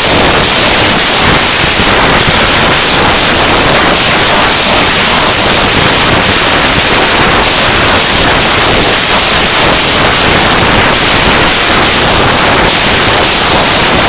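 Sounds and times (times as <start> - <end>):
dense hissing noise music: 0.0 - 14.0.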